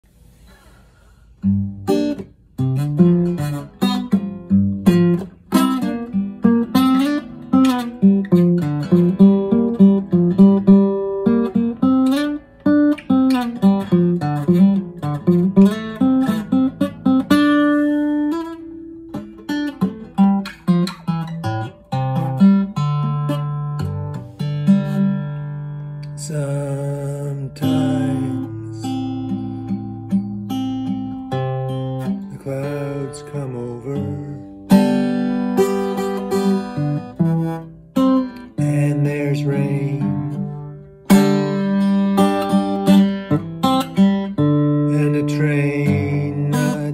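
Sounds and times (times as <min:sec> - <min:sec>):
acoustic guitar plucked: 0:01.3 - 0:46.9.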